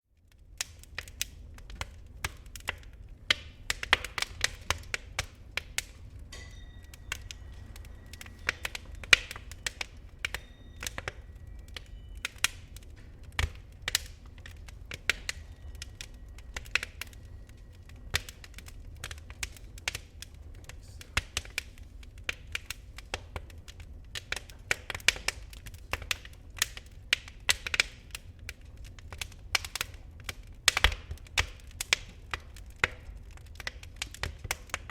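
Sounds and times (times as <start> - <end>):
fire crackling and popping: 0.0 - 34.9
low fire rumble: 0.0 - 34.9.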